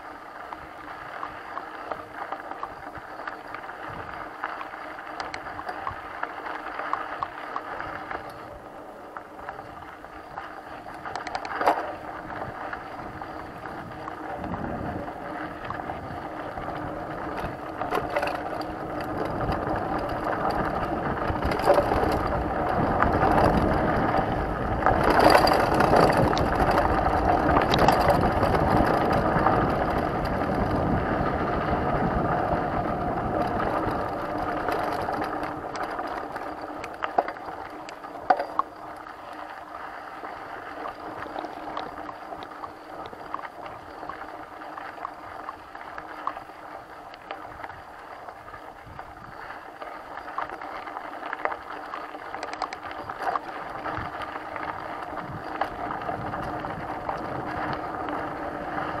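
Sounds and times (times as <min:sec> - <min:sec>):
bike clicking and rattling: 0:00.0 - 0:59.0
tyre noise on dirt: 0:00.0 - 0:59.0
wind buffeting microphone: 0:07.8 - 0:39.7, 0:40.3 - 0:49.5, 0:51.3 - 0:59.0.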